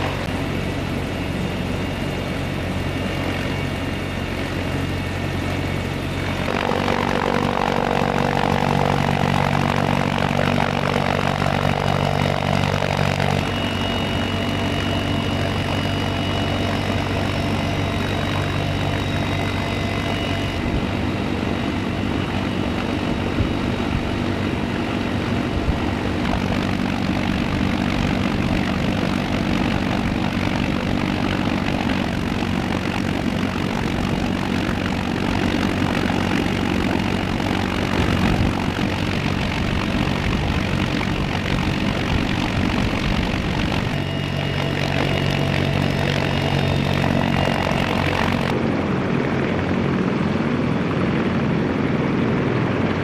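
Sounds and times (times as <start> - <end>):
helicopter engines and rotors: 0.0 - 53.0.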